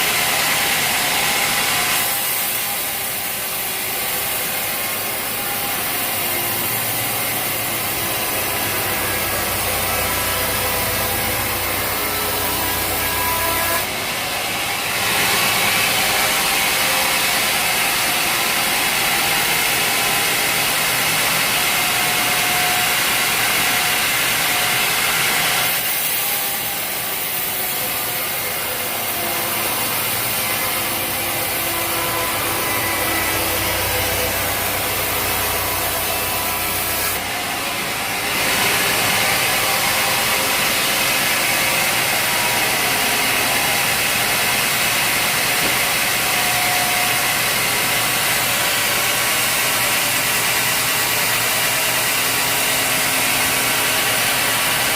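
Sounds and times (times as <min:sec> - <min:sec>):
saw blade cutting through log: 0:00.0 - 0:54.9
sawmill running: 0:00.0 - 0:54.9.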